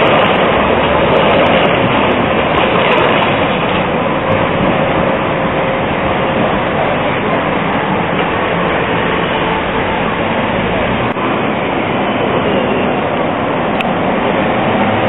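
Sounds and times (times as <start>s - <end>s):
city road traffic: 0.0s - 15.0s
tram passing on track: 0.0s - 15.0s.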